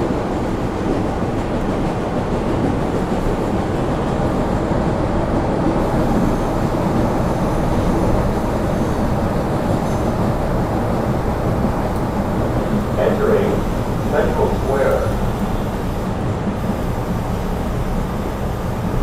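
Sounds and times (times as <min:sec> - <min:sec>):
subway train rumbling in tunnel: 0:00.0 - 0:19.0.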